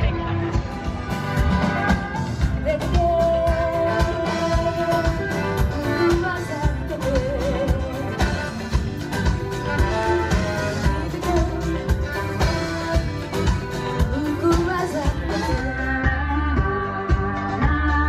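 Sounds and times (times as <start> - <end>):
live band playing: 0.0 - 18.0
steady drum beat: 0.0 - 18.0.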